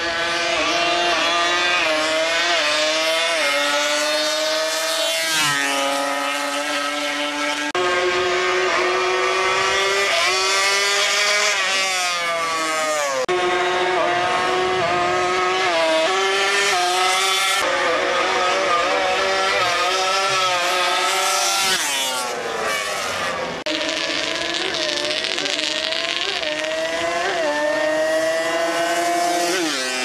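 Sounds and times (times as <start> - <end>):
atv engines revving: 0.0 - 30.0.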